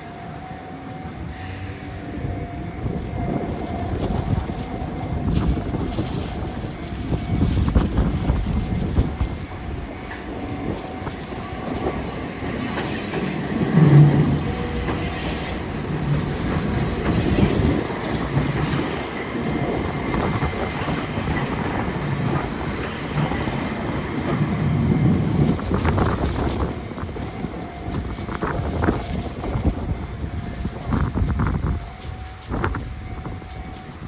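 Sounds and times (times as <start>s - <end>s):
train wheels clacking over rail joints: 3.5s - 34.0s.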